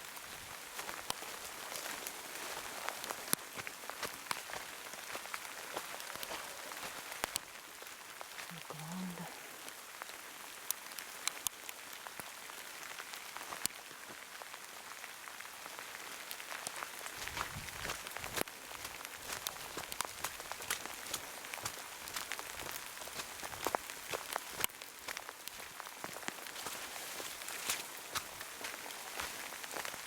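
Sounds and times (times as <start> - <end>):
heavy rain: 0.0 - 30.0
raindrops ticking close by: 0.1 - 30.0.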